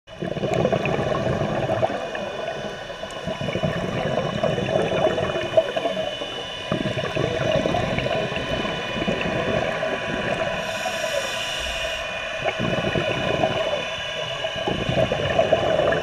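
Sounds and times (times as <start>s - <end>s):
underwater exhaled bubbles gurgling: 0.1s - 16.0s.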